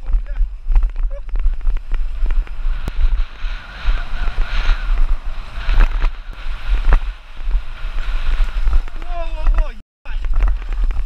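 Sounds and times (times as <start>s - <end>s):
bike rattling over dirt: 0.0s - 11.0s
wind buffeting microphone: 0.0s - 11.0s.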